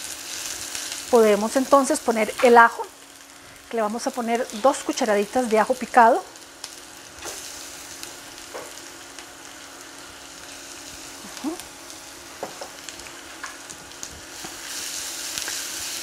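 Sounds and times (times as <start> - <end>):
onion and garlic sizzling in oil: 0.0 - 16.0.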